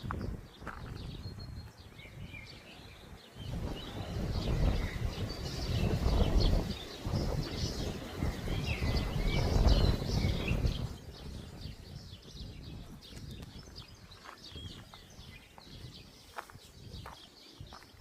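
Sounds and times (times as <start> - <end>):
songbirds chirping and twittering: 0.0 - 18.0
wind buffeting microphone: 0.0 - 18.0.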